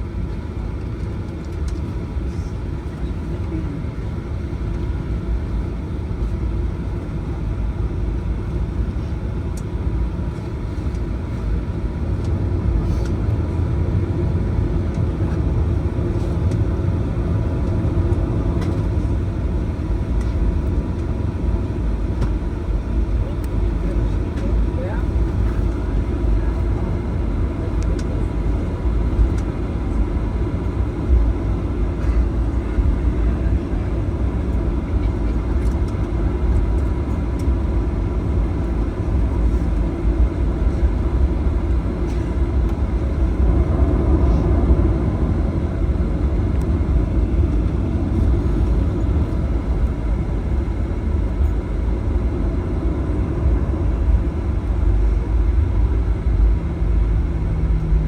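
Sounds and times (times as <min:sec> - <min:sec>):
jet engines idling low rumble: 0:00.0 - 0:58.0.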